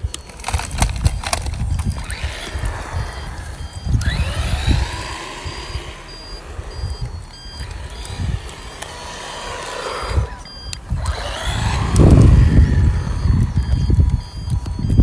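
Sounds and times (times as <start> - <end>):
electric motor whine: 0.0 - 15.0
short high electronic beeps: 0.0 - 15.0.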